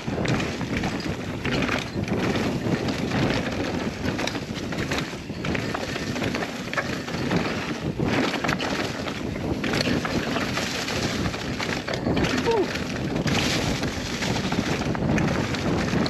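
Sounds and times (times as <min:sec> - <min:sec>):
bike knocks and clatters: 0:00.0 - 0:16.0
bike tyre rumble on dirt: 0:00.0 - 0:16.0
wind buffeting microphone: 0:00.0 - 0:16.0.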